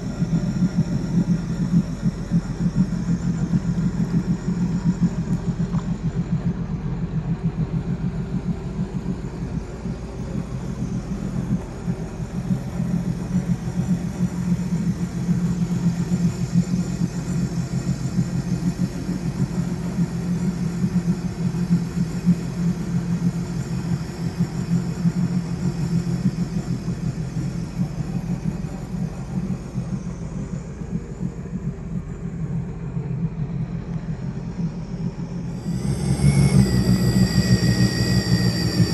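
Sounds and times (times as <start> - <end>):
boat engine rumbling: 0.0 - 38.9.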